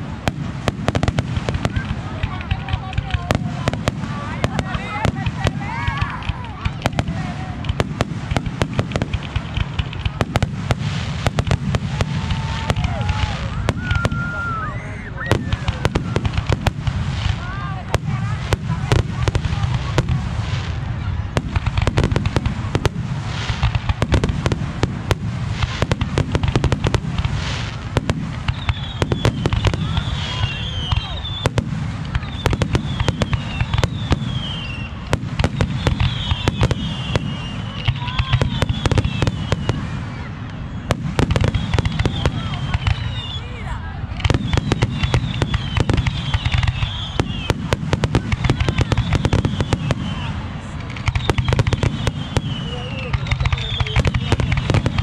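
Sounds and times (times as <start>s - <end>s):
fireworks bangs: 0.0s - 55.0s
fireworks crackling: 0.0s - 55.0s
high whistling fireworks: 0.0s - 55.0s.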